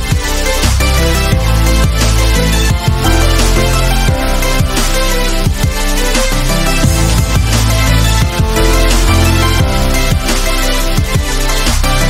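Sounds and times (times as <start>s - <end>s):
electronic music: 0.0s - 12.0s
deep sliding bass notes: 0.1s - 12.0s.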